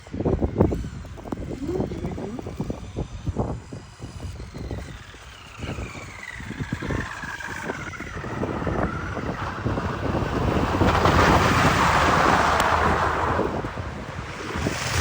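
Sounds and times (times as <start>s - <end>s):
electric motor whining: 0.0s - 15.0s
wind buffeting microphone: 0.0s - 15.0s.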